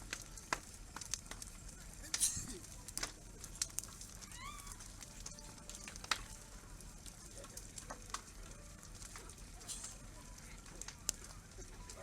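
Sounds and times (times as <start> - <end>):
wood popping: 0.0 - 10.0
campfire crackling: 0.0 - 12.0.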